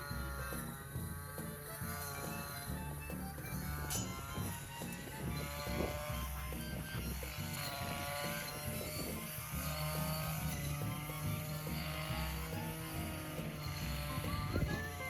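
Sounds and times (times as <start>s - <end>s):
background music: 0.0s - 15.0s
steady engine drone: 0.0s - 15.0s.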